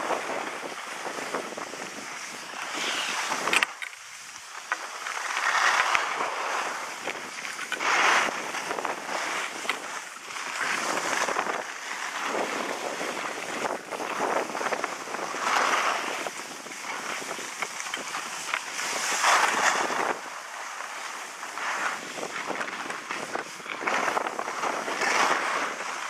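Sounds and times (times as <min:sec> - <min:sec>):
skis scraping over snow: 0:00.0 - 0:26.0
wind on microphone: 0:00.0 - 0:26.0.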